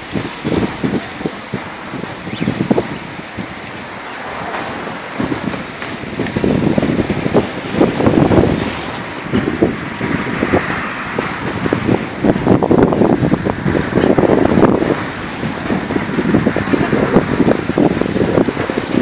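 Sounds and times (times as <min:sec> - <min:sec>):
rush of bicycle tyres: 0:00.0 - 0:19.0
wind buffeting microphone: 0:00.0 - 0:19.0.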